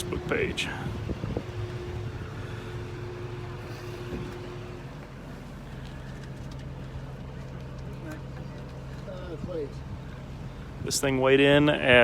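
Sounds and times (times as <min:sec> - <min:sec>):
heavy vehicle engine idling: 0:00.0 - 0:12.0.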